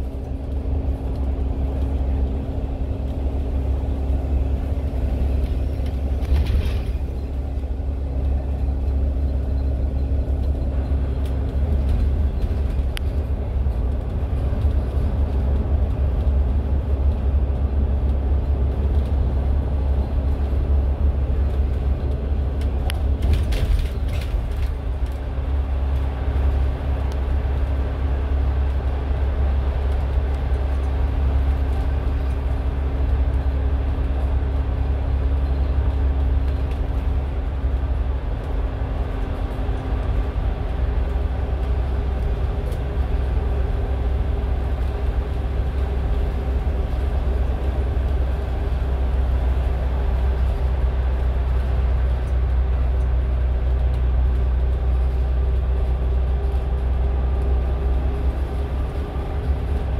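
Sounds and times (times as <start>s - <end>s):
bus engine and road rumble: 0.0s - 59.9s
constant hum tones: 0.0s - 59.9s.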